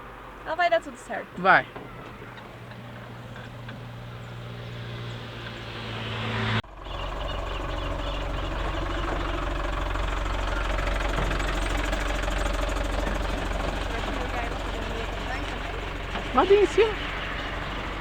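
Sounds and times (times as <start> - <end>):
vehicle engine running: 0.0 - 18.0
deep engine running: 1.5 - 18.0.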